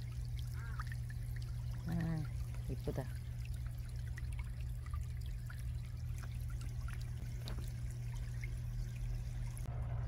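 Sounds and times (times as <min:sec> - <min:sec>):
low steady hum: 0:00.0 - 0:10.0
shallow water trickling: 0:00.0 - 0:10.0.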